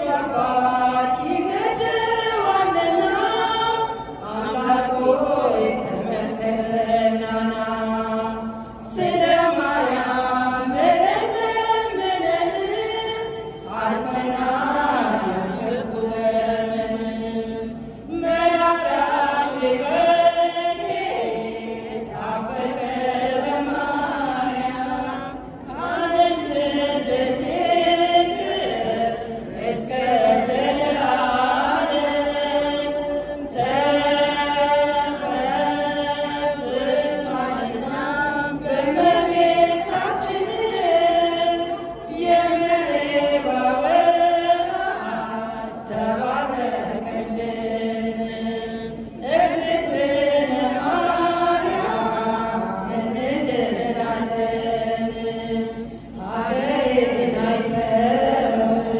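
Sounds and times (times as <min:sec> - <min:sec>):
women's choir singing a hymn: 0:00.0 - 0:58.9.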